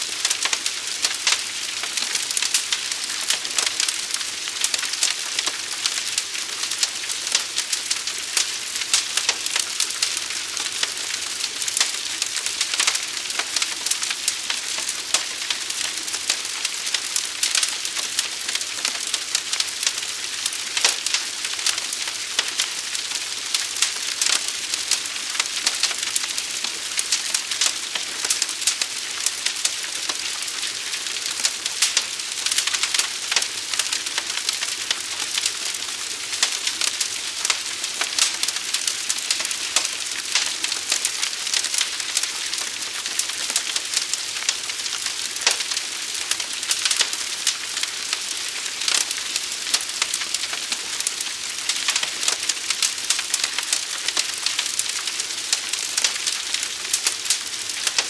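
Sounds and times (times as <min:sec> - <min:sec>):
forest fire crackling: 0:00.0 - 0:58.0.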